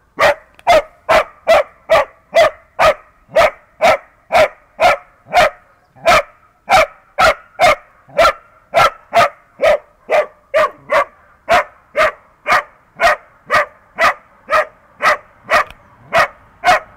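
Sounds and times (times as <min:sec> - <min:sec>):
dog barking: 0:00.2 - 0:16.9.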